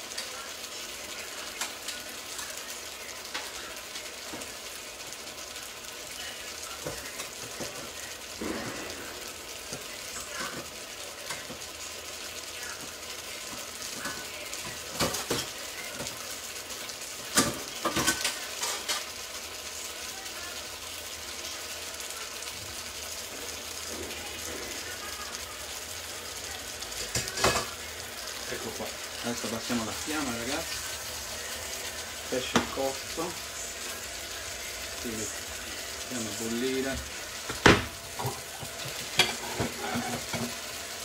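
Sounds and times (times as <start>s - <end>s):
fish sizzling in a frying pan: 0.0s - 41.0s.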